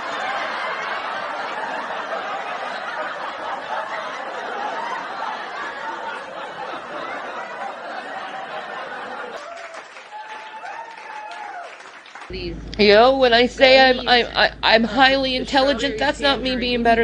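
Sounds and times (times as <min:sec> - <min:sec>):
chatter: 0:00.0 - 0:09.4, 0:12.3 - 0:17.0
crowd laughing: 0:00.0 - 0:12.3, 0:13.3 - 0:17.0.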